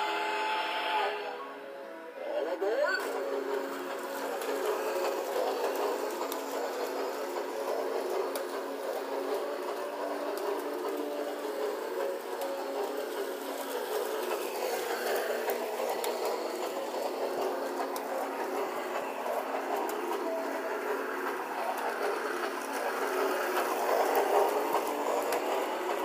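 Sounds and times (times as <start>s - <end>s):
toy train motor whir: 2.4s - 26.0s
wheels rattling on track: 3.1s - 26.0s.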